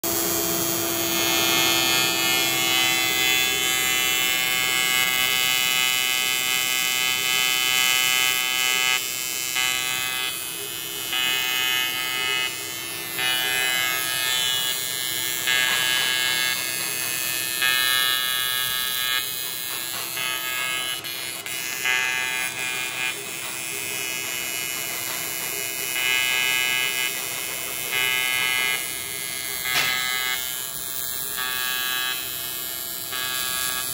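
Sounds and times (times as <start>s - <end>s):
welding arc buzzing: 0.0s - 33.9s.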